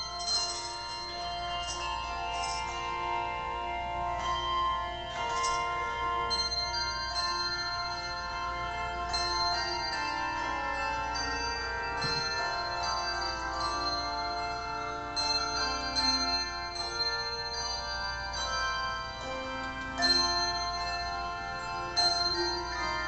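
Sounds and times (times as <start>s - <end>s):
handbell choir playing a tune: 0.0s - 23.0s.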